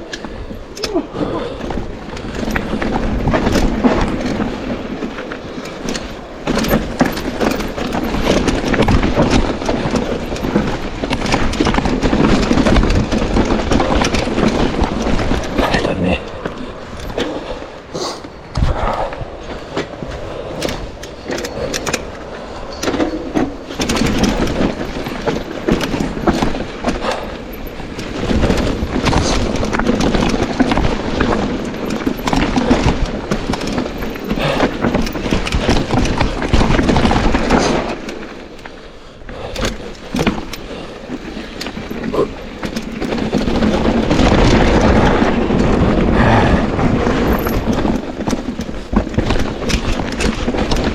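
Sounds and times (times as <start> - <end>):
bike knocking and rattling: 0.0 - 50.9
bike tyres rumbling over rocks: 0.0 - 50.9.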